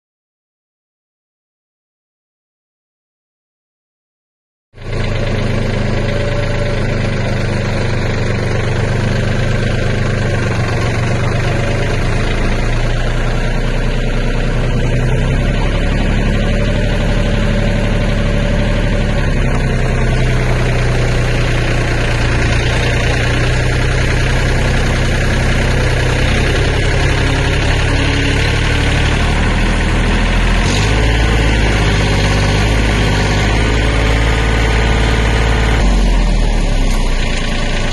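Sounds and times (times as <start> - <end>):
tractor diesel engine running: 4.8 - 37.9.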